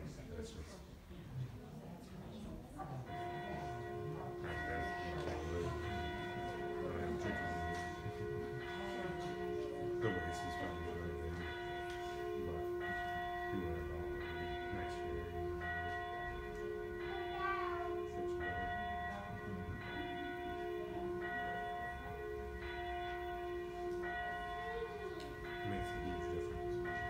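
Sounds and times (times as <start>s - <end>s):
church bell tolling: 2.4s - 27.0s.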